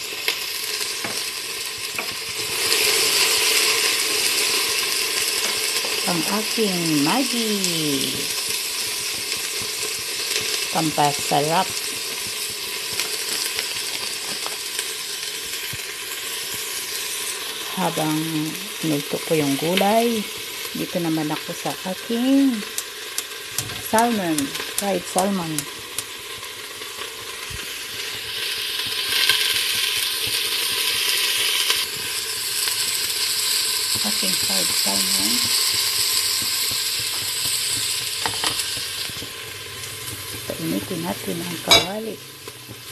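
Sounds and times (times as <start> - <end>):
vegetables sizzling in oil: 0.0 - 42.9.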